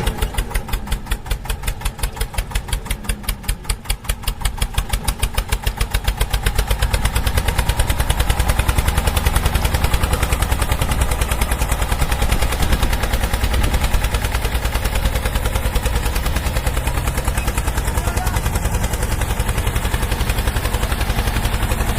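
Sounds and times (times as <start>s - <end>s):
small tractor engine running: 0.0s - 21.9s.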